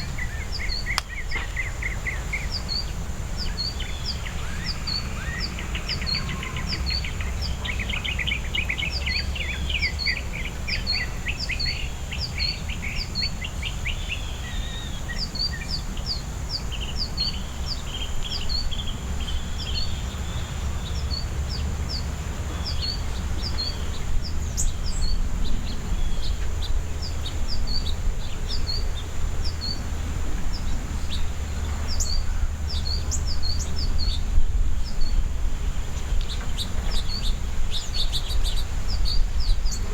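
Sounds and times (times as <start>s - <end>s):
fast lower birdsong run: 0.0s - 39.9s.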